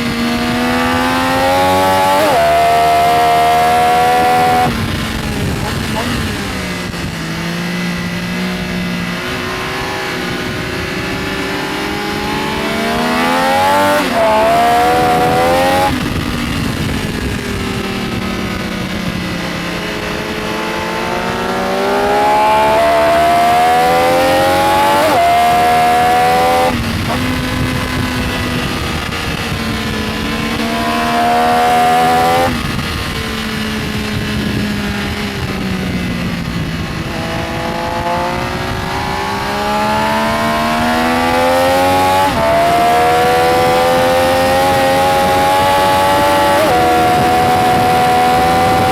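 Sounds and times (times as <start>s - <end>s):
motorcycle engine revving hard: 0.0s - 48.9s.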